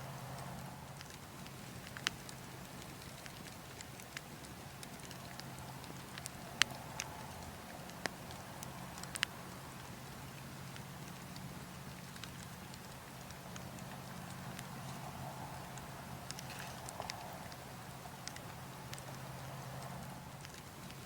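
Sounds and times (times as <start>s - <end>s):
burning logs crackling: 0.0s - 21.0s
wind: 0.0s - 21.0s
fire pops: 0.4s - 21.0s.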